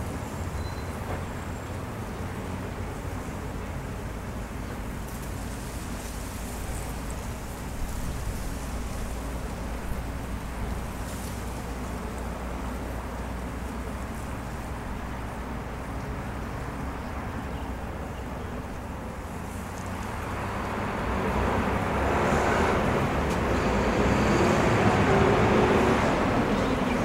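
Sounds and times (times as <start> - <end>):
distant road traffic: 0.0 - 27.0.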